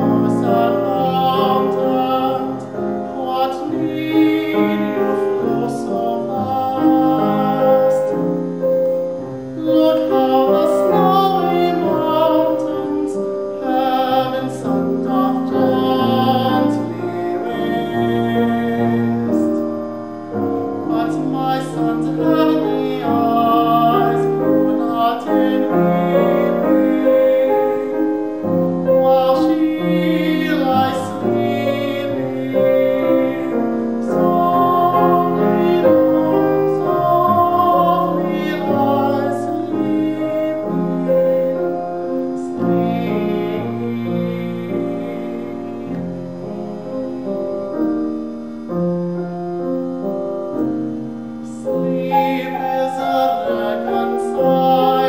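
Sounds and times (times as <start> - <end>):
classical singer with vibrato: 0.0 - 55.0
piano chords: 0.0 - 55.0.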